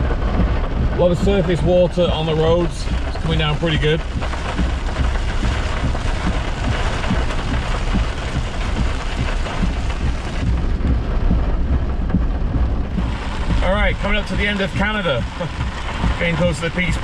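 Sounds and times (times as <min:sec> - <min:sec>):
car rumble on wet road: 0:00.0 - 0:17.0
heavy rain on car roof: 0:00.0 - 0:17.0.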